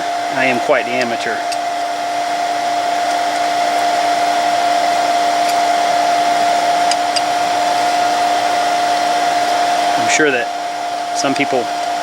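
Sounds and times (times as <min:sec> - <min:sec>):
electric air blower whining: 0:00.0 - 0:12.0.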